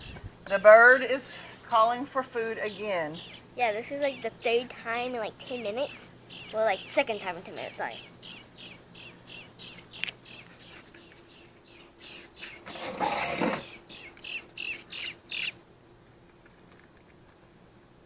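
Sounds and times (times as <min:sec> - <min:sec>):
young bird begging calls: 0:00.0 - 0:15.6.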